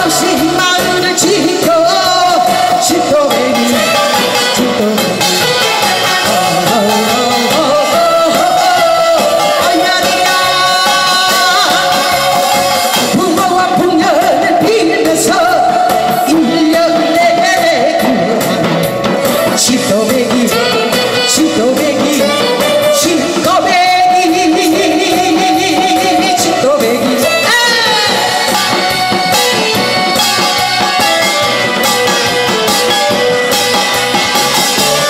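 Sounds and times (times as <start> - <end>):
woman singing into microphone: 0.0 - 33.5
amplified band with drum beat: 0.0 - 35.0.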